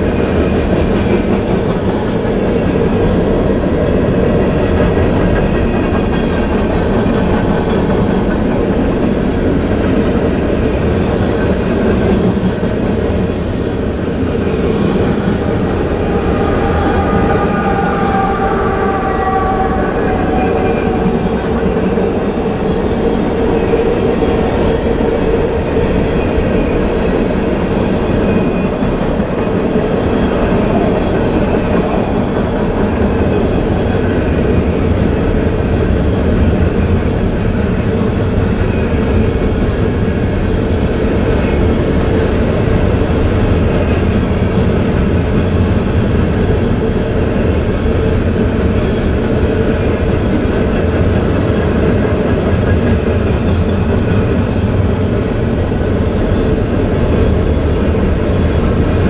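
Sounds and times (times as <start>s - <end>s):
steel train wheels rumbling on rail: 0.0s - 59.0s.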